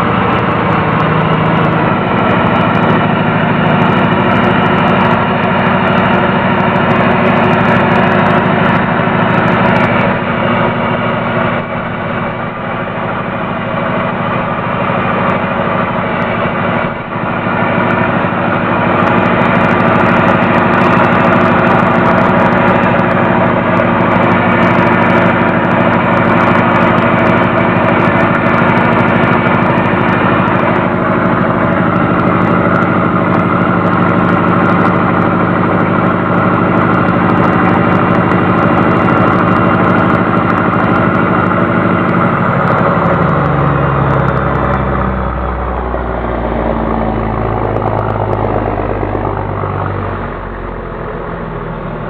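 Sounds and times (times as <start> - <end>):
truck diesel engine running: 0.0 - 52.0.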